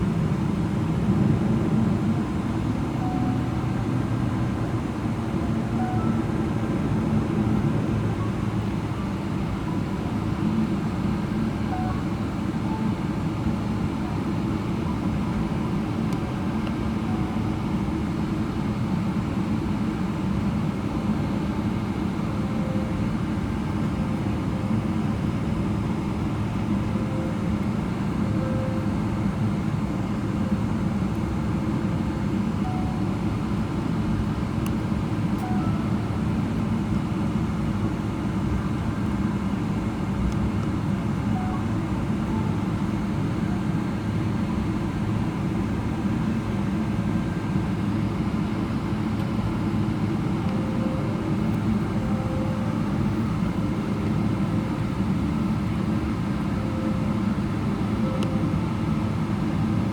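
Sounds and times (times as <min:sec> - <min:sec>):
airplane cabin noise: 0:00.0 - 0:59.9.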